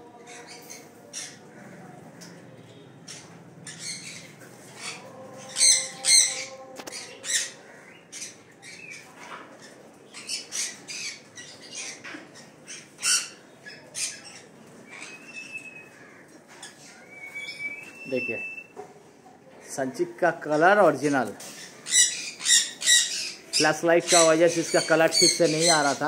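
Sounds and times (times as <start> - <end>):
parrots squawking: 0.1 - 17.6, 21.4 - 26.0.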